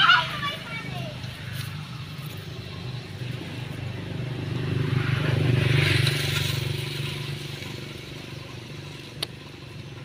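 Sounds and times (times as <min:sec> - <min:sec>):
motorbike passing by: 0:00.0 - 0:10.0.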